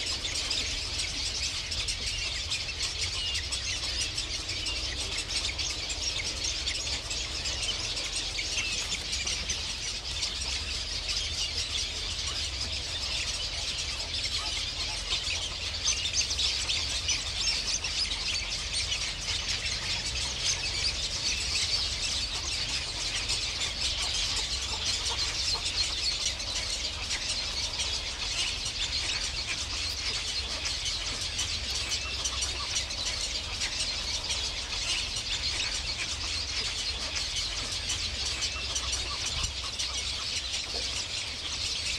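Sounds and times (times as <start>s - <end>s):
low steady rumble: 0.0s - 41.9s
many birds chirping: 0.0s - 41.9s.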